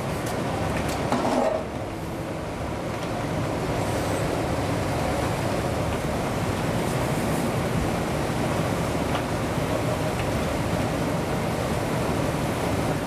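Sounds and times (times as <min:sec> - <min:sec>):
gas burners running: 0:00.0 - 0:13.0.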